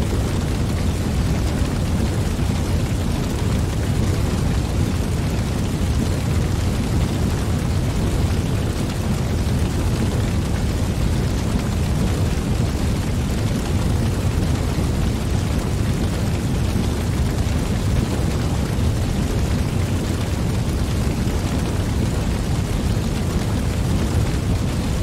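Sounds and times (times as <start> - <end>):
wood fire flames rushing: 0.0 - 25.0.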